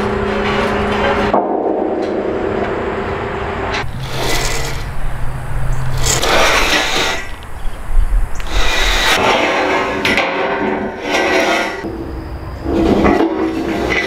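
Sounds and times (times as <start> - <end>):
steel pipes scraping and clanking: 0.0 - 7.8, 8.4 - 14.0.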